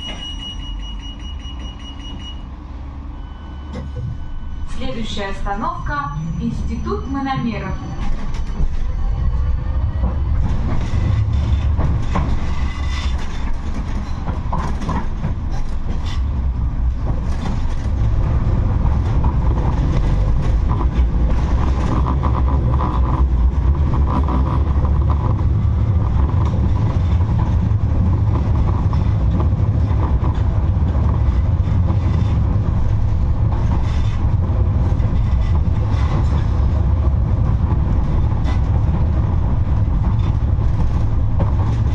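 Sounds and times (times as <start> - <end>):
tram wheels rumbling: 0.0 - 41.9.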